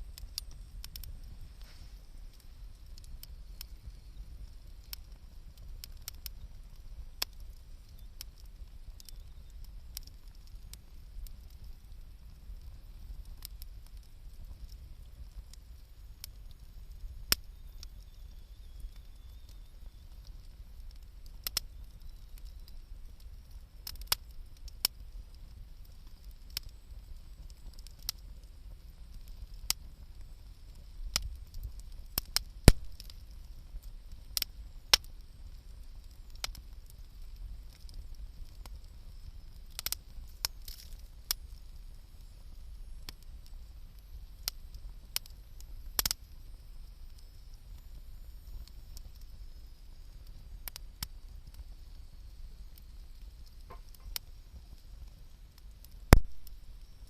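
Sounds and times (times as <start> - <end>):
faint low rumble: 0.0 - 57.0
wood fire crackling and popping: 0.0 - 57.0.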